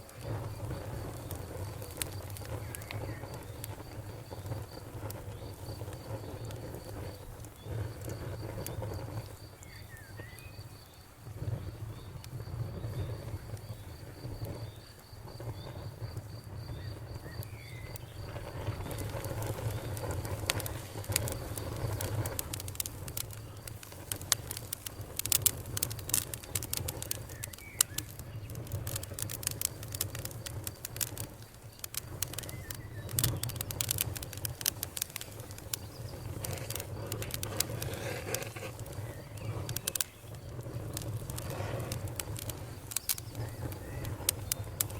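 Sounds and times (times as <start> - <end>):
campfire crackling pops: 0.0 - 44.9.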